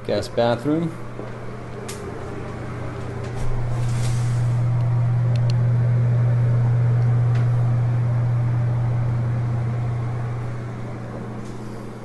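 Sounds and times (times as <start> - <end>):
exhaust fan humming: 0.0 - 12.0.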